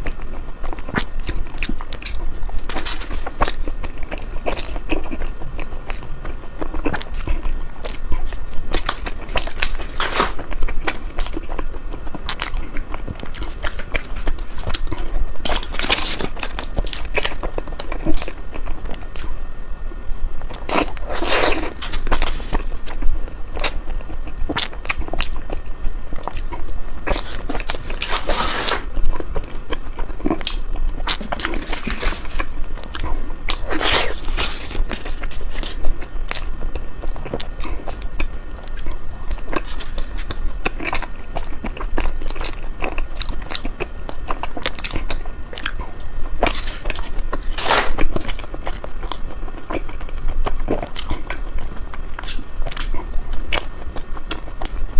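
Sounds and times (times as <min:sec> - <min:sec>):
person crunching ice cream: 0:00.0 - 0:19.6, 0:20.4 - 0:54.9.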